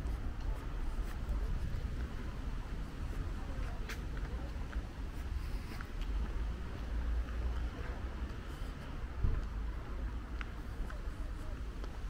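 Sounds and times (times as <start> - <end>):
low street rumble: 0.0 - 12.0.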